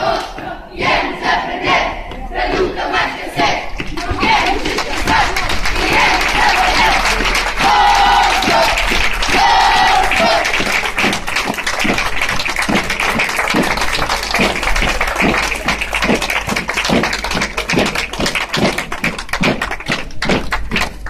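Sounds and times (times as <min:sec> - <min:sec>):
march music: 0:00.0 - 0:20.4
crowd noise: 0:00.0 - 0:21.0
rhythmic clapping: 0:00.0 - 0:21.0.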